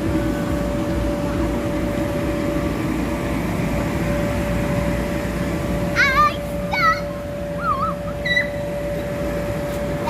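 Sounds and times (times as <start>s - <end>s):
electric air blowers humming: 0.0s - 10.0s.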